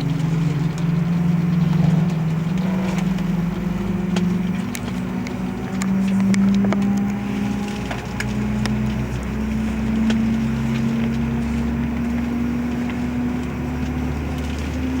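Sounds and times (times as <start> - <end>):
jet engine starting up: 0.0 - 15.0.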